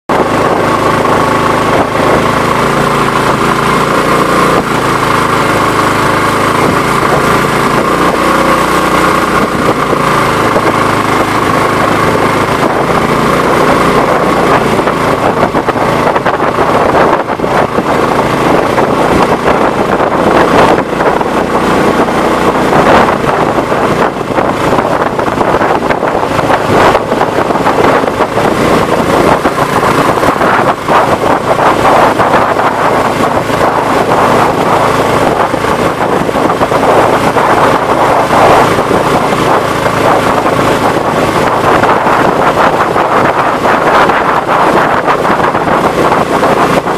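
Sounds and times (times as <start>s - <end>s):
boat motor running: 0.0s - 46.9s
water rushing off hull: 0.1s - 46.9s.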